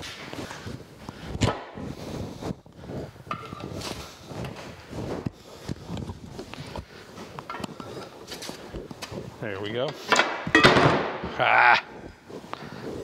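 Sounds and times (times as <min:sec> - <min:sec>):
strap rubbing against iron: 0:00.0 - 0:13.0.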